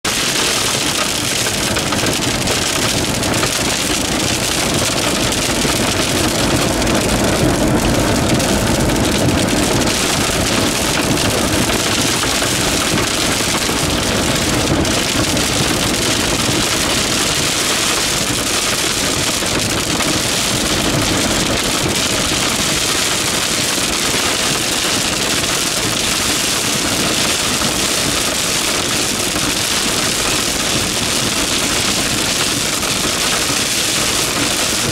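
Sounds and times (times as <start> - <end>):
rain and hail downpour: 0.0 - 34.9.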